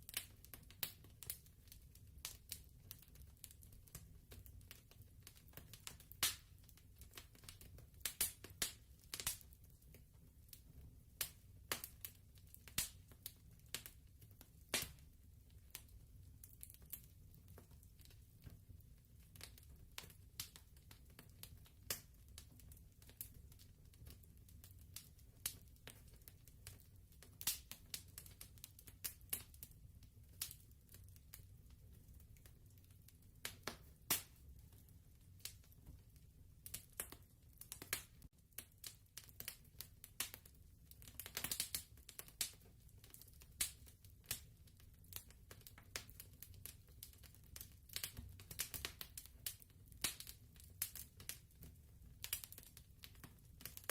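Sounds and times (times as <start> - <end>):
fireplace crackling and popping: 0.0 - 53.9.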